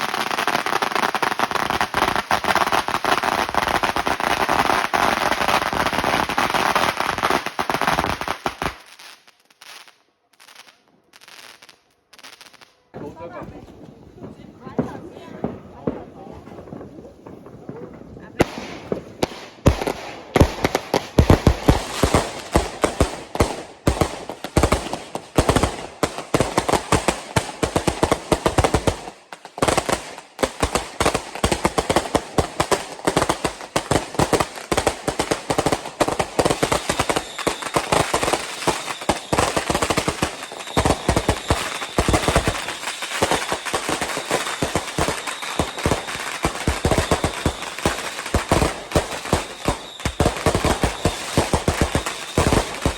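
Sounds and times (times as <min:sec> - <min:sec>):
firecrackers and fireworks banging: 0:00.0 - 0:52.9.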